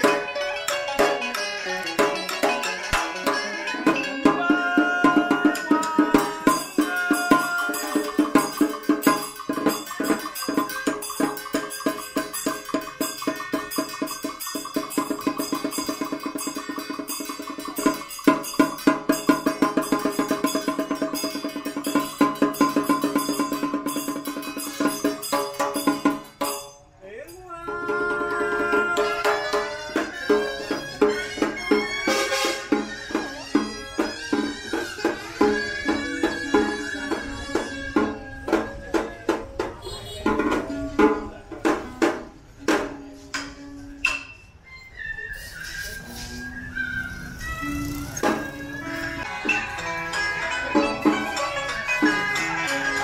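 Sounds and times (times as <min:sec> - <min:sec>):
ritual ensemble music: 0:00.0 - 0:44.4, 0:47.4 - 0:53.0
wood block and drum percussion: 0:00.0 - 0:44.6, 0:47.2 - 0:53.0.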